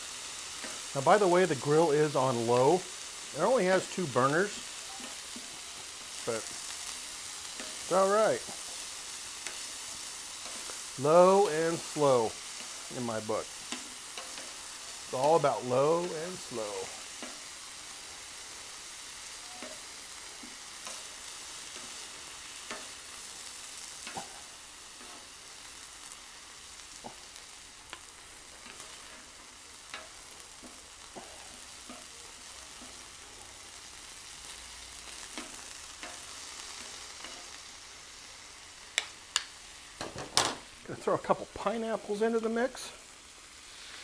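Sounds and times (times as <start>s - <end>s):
meat sizzling on a griddle: 0.0s - 44.0s.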